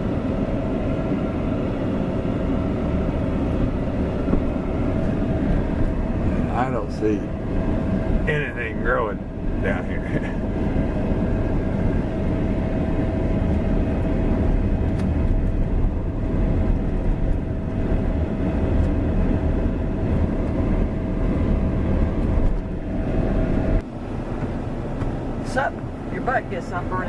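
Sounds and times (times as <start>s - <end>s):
car cabin rumble: 0.0s - 27.0s
thin steady whine: 0.0s - 27.0s.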